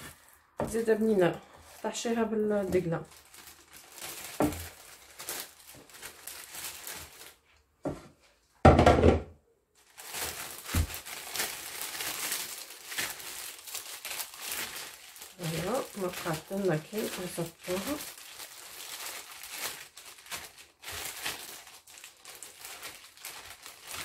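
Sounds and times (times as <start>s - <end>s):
plastic bag crinkling: 0.0s - 7.6s, 9.8s - 24.0s.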